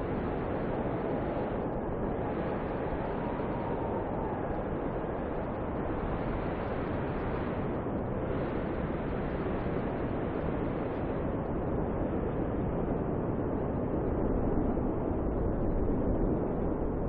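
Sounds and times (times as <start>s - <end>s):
snowstorm wind blowing: 0.0s - 17.0s.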